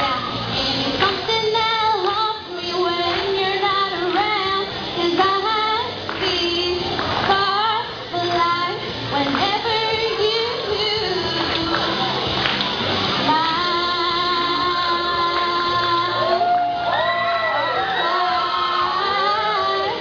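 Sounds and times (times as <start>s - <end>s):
woman singing pop song: 0.0s - 12.5s, 13.2s - 20.0s.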